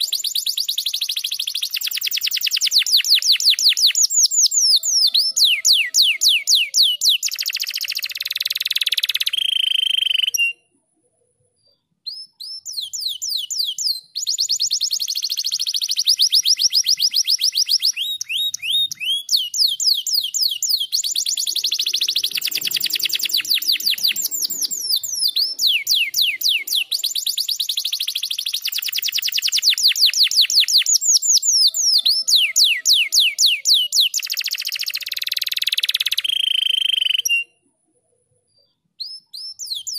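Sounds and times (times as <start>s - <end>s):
canary singing trills: 0.0s - 10.8s, 11.6s - 37.7s.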